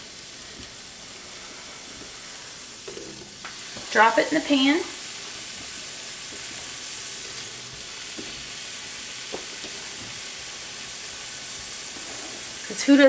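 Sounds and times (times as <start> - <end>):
ham sizzling in butter: 0.0 - 13.0.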